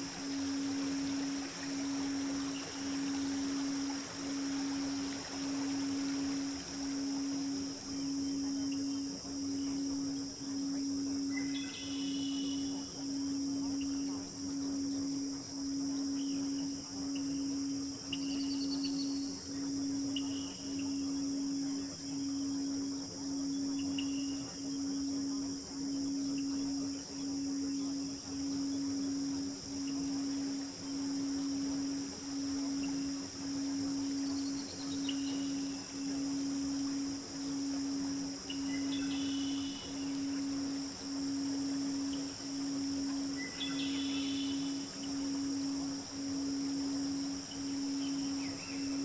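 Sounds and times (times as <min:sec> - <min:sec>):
crickets chirring: 0:00.0 - 0:49.0
pulsing low tone: 0:00.0 - 0:49.0.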